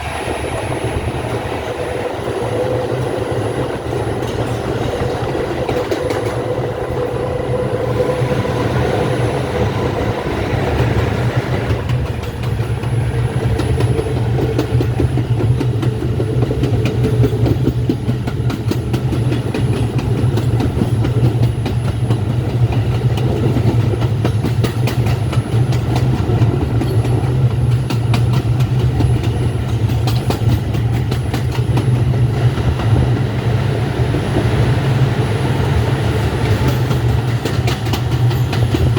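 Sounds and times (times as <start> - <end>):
wheels clicking over rails: 0.0 - 33.2, 36.0 - 38.9
subway train rumbling: 0.0 - 38.9
train whine: 0.0 - 38.9.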